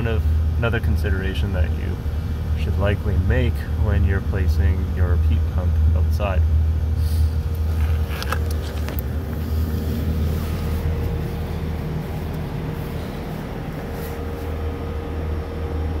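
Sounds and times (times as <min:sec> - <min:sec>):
heat pump humming with whine: 0:00.0 - 0:16.0.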